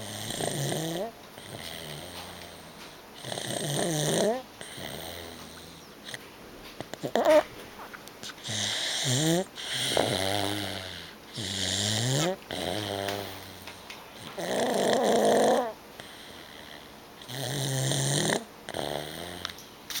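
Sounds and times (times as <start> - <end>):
loud snoring: 0.0 - 6.2, 8.4 - 19.6.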